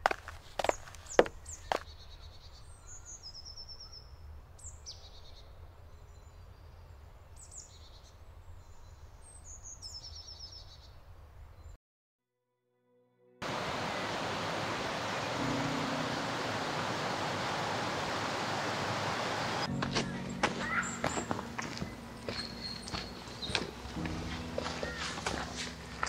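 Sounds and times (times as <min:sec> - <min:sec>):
songbirds chirping: 0:00.0 - 0:11.8, 0:13.4 - 0:26.0.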